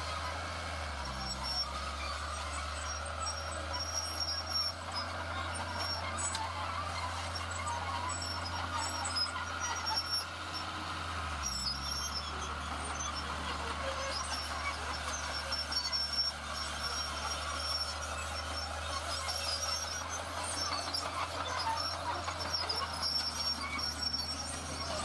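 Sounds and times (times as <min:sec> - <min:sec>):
heavy machinery diesel engine drone: 0:00.0 - 0:25.0.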